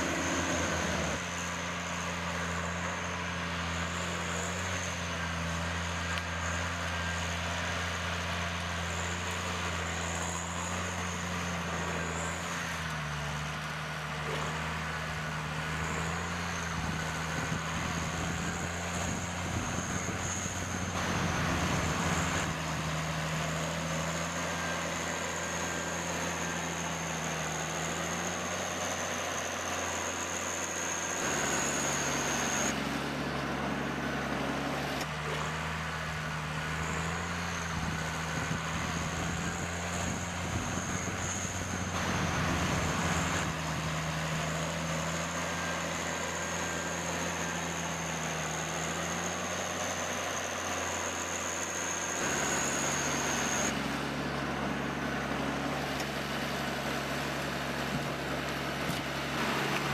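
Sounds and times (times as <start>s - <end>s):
engine running: 0.0s - 59.9s
thin high whine: 0.0s - 59.9s.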